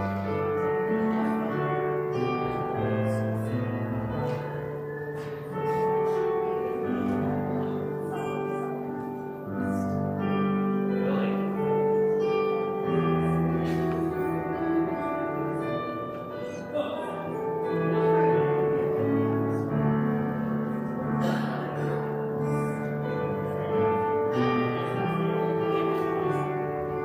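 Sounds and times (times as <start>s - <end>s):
slow instrumental church music: 0.0s - 27.0s.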